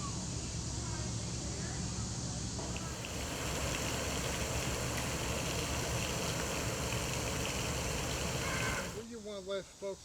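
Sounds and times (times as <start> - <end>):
rushing outdoor background noise: 0.2 - 9.1.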